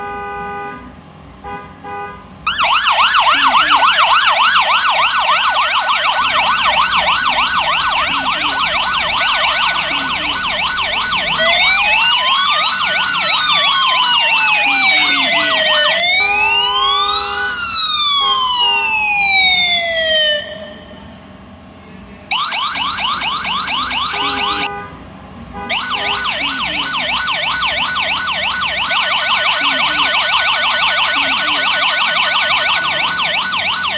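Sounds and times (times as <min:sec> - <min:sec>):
electronic siren: 0:02.5 - 0:21.0, 0:22.3 - 0:24.7, 0:25.7 - 0:33.9.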